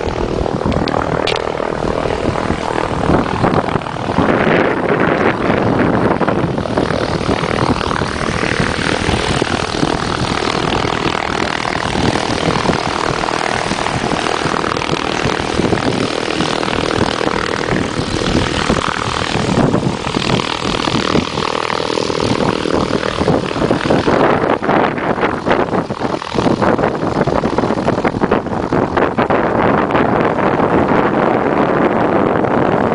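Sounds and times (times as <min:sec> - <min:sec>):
light aircraft engine drone: 0:00.0 - 0:32.9.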